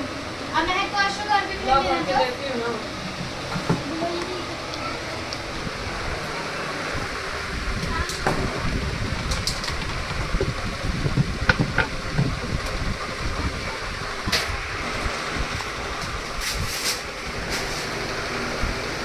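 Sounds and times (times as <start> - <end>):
washing machine rumbling: 0.0 - 19.0.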